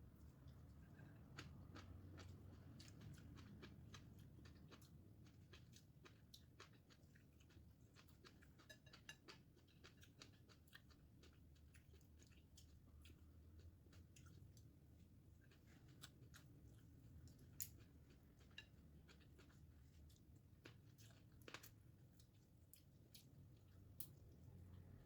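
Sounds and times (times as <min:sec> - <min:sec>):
chewing food: 0:00.1 - 0:25.0.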